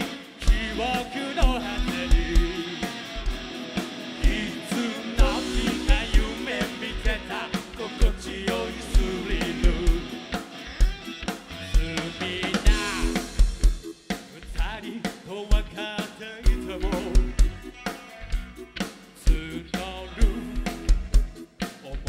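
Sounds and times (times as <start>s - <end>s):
drum kit beat: 0.0s - 22.0s
electric guitars: 0.0s - 22.0s
rock band playing: 0.0s - 22.0s.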